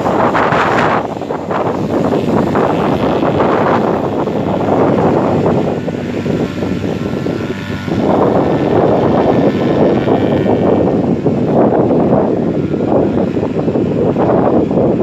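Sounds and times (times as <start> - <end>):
faint engine and propeller drone: 0.0 - 15.0
wind gusting across microphone: 0.0 - 15.0.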